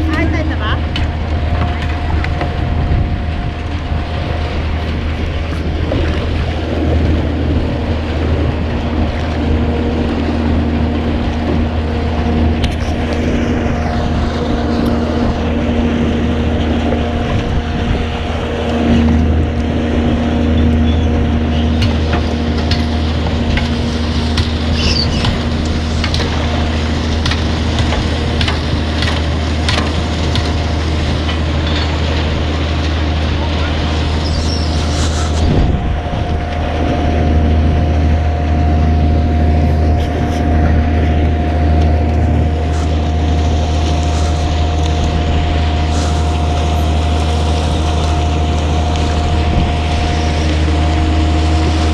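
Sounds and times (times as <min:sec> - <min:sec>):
motorboat engine running: 0:00.0 - 0:51.9.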